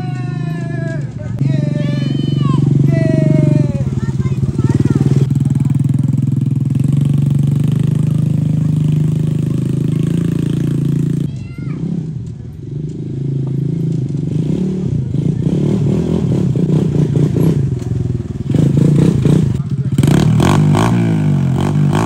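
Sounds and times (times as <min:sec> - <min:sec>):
quad bike engine running: 0:00.0 - 0:22.0.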